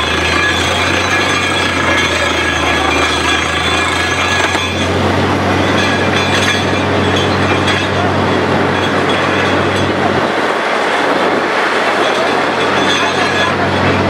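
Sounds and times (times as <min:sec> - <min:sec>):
drilling rig engine drone: 0:00.0 - 0:14.0.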